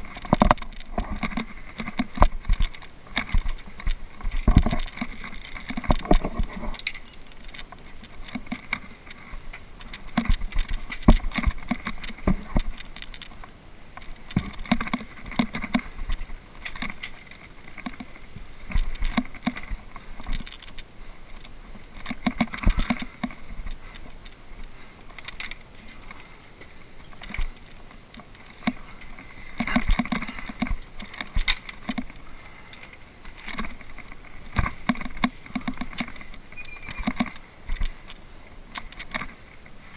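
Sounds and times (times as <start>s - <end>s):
rustles and bumps: 0.0s - 39.9s.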